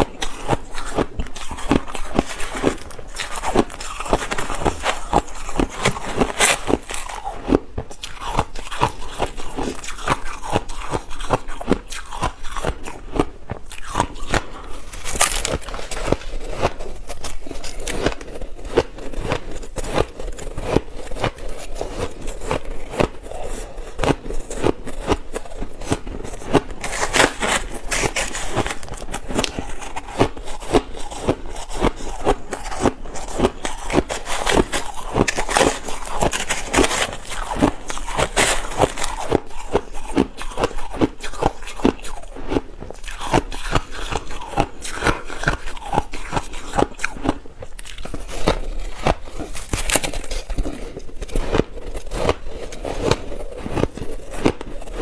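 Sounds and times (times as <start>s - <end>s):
chewing ice crunches: 0.0s - 55.0s.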